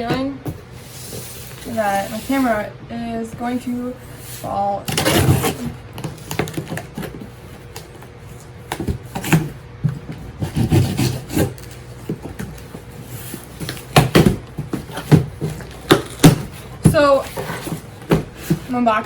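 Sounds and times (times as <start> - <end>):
handling rubbing and knocks: 0.0 - 8.1, 8.7 - 19.0.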